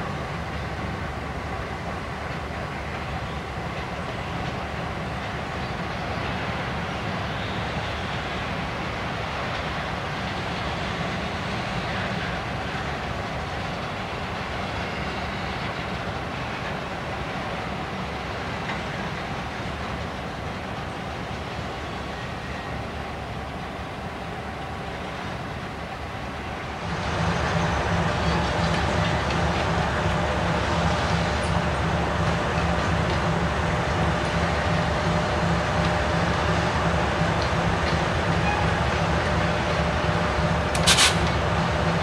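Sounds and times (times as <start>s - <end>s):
freight train rolling past: 0.0s - 42.0s.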